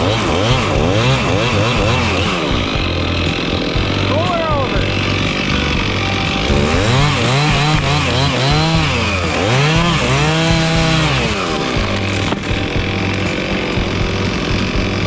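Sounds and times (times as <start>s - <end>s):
chainsaw engine revving: 0.0s - 15.0s
low engine drone: 0.0s - 15.0s.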